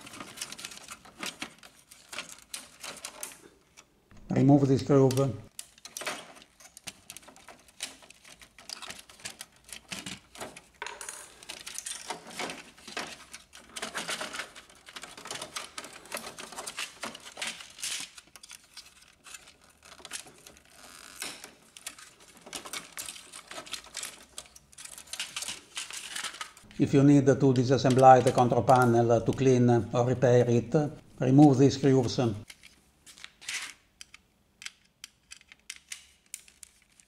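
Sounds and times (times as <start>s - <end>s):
plastic clicks and rattles: 0.0s - 3.9s, 5.1s - 26.7s, 32.4s - 37.0s.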